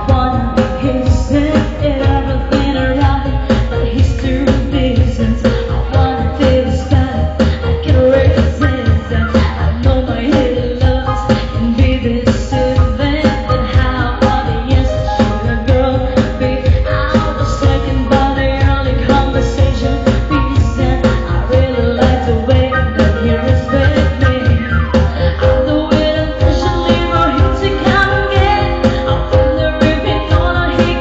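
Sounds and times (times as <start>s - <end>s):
driving dance beat: 0.0s - 31.0s
pop song with singing: 0.0s - 31.0s.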